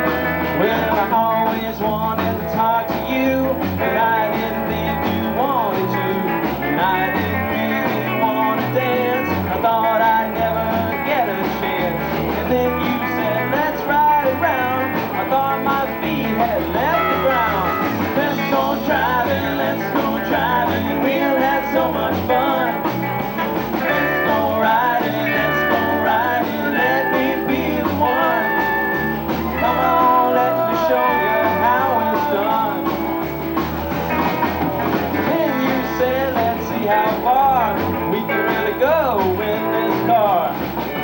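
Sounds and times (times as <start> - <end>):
bass guitar: 0.0 - 41.0
drums: 0.0 - 41.0
lead guitar with string bends: 0.0 - 41.0.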